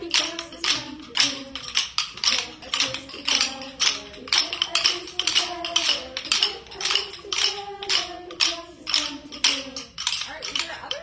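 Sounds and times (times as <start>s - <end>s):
rhythm sticks clacking: 0.0s - 11.0s.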